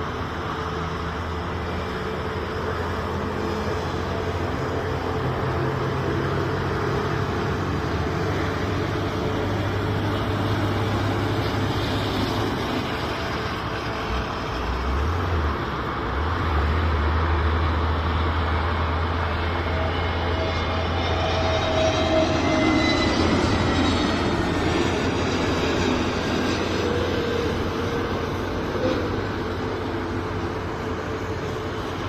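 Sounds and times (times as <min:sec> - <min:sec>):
road traffic rumble: 0:00.0 - 0:32.0
vehicle engine hum: 0:00.0 - 0:32.0.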